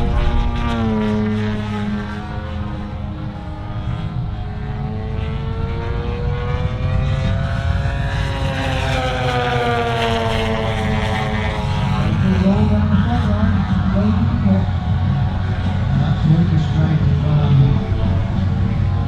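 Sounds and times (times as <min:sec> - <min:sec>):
model plane engine drone: 0:00.0 - 0:19.0.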